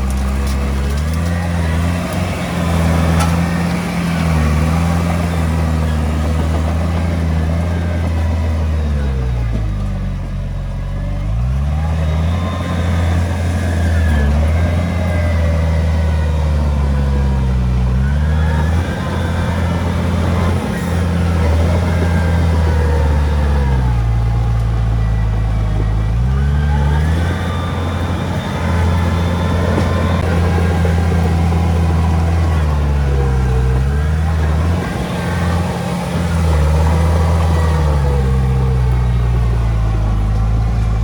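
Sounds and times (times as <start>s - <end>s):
bulldozer diesel engine under load: 0.0s - 41.0s.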